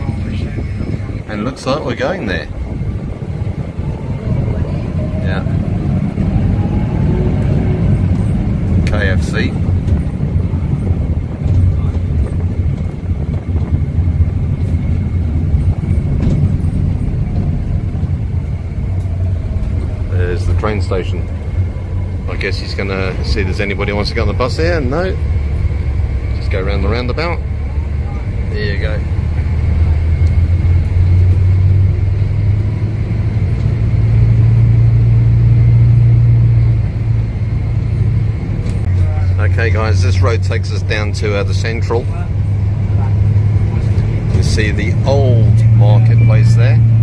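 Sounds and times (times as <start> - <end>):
bus engine and road noise: 0.0 - 47.0.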